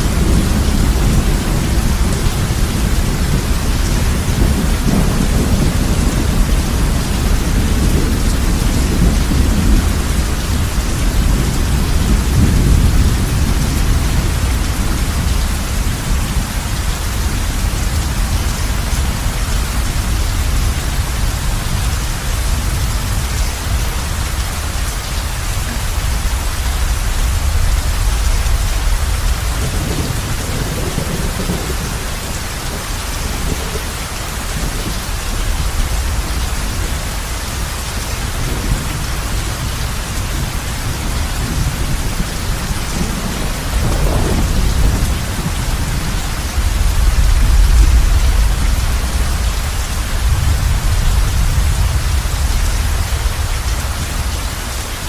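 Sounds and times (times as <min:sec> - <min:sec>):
heavy rain on a roof: 0:00.0 - 0:55.0
low thunder rumbling: 0:00.0 - 0:55.0.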